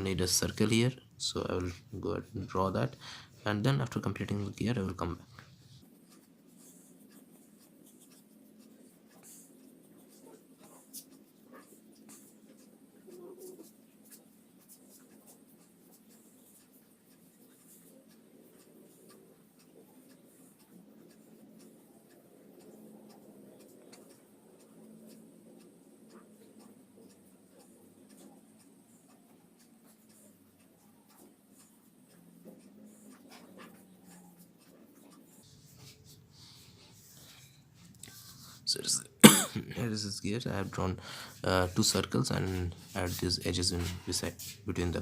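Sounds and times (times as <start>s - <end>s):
pencil scratching on paper: 3.8s - 38.8s, 39.9s - 45.0s.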